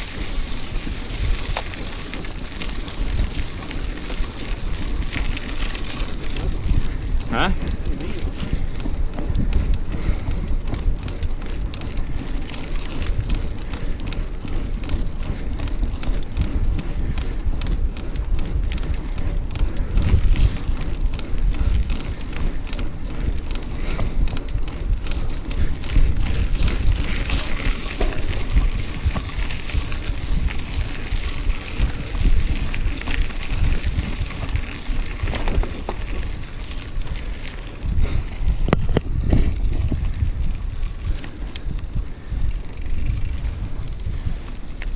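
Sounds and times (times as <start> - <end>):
bicycle tyres crackling on trail: 0.0 - 44.9
wind rumble on microphone: 0.0 - 44.9.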